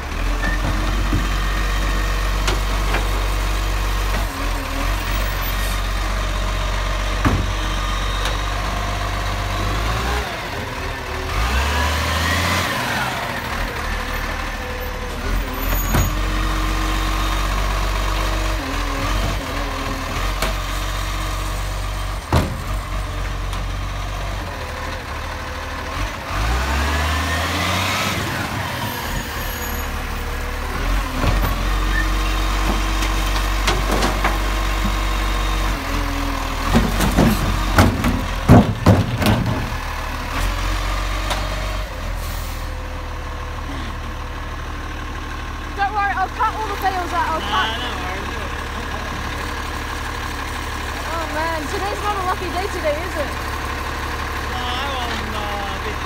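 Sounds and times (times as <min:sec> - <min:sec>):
garbage truck engine revving: 0:00.0 - 0:56.0.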